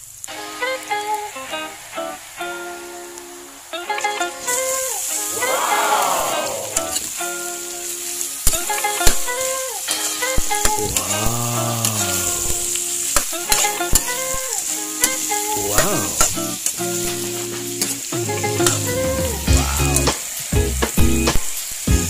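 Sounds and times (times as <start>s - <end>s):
background music: 0.3s - 22.0s.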